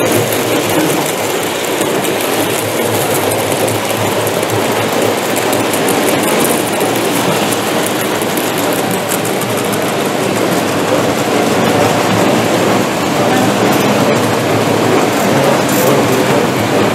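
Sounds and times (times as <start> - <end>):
model train running: 0.0 - 16.9.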